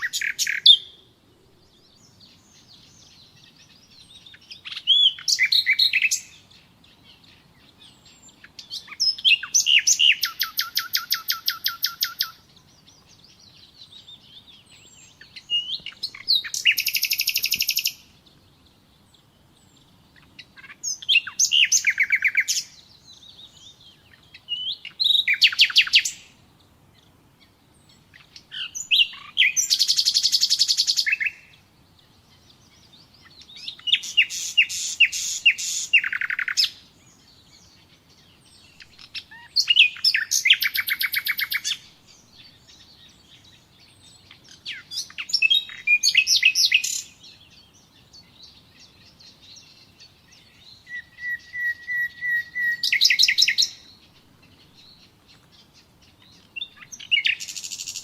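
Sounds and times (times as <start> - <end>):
faint bird twittering: 0.0 - 58.0
nightingale singing: 0.0 - 58.0.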